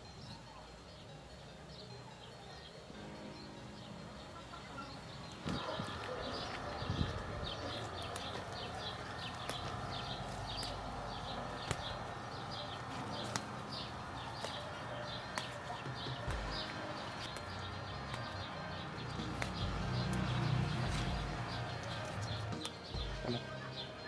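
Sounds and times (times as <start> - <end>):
bird chirping: 0.0 - 24.0
low background noise: 0.0 - 24.0.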